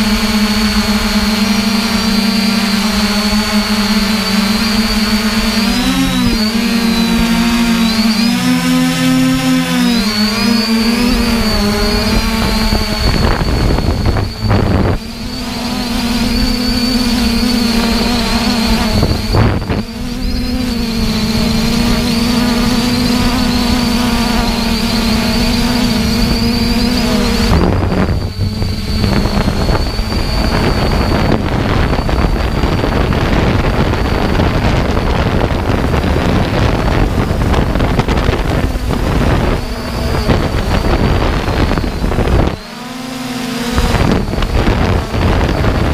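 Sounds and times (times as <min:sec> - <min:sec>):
quadcopter motors buzzing: 0:00.0 - 0:45.9
wind on microphone: 0:00.0 - 0:45.9.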